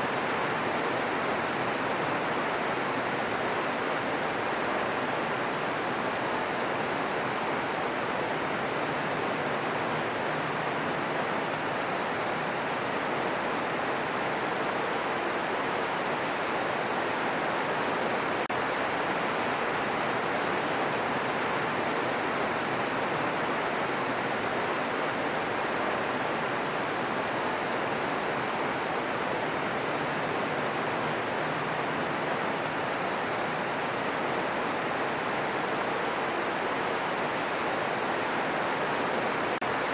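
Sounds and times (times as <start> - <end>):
green noise hiss: 0.0 - 39.9.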